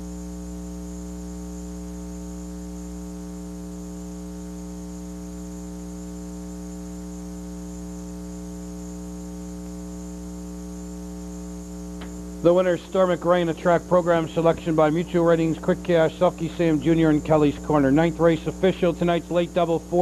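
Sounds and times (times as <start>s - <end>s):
electrical mains hum: 0.0s - 20.0s
faint high whine: 0.0s - 20.0s.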